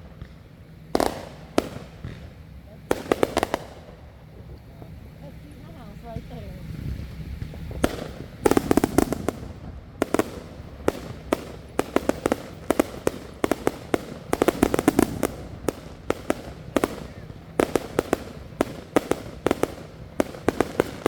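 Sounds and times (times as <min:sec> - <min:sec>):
firework bangs: 0:00.0 - 0:21.0
low rumble: 0:01.2 - 0:20.4.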